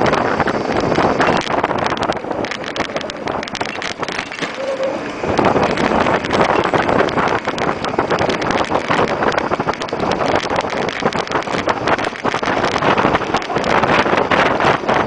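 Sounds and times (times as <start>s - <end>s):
bicycle rattling over pavement: 0.0s - 15.0s
wind buffeting microphone: 0.0s - 15.0s.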